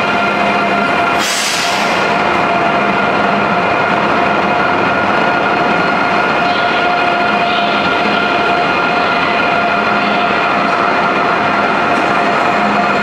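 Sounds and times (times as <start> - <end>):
train wheels rushing on rail: 0.0 - 13.0.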